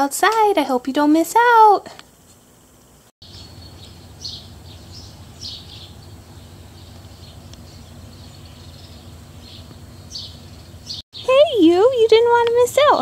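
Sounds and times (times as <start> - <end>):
low background hum: 0.0 - 13.0
small birds chirping: 2.4 - 13.0.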